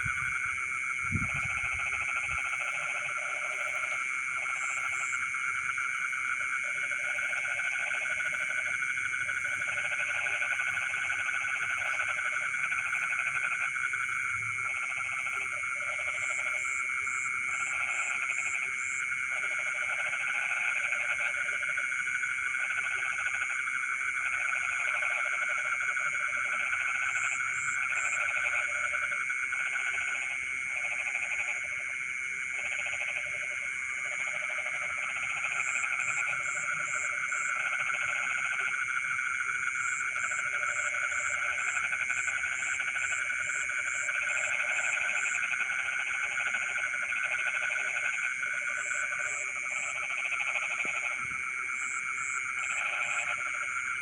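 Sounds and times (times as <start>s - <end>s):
frog chorus trilling: 0.0s - 54.0s
frog croaking: 0.0s - 54.0s.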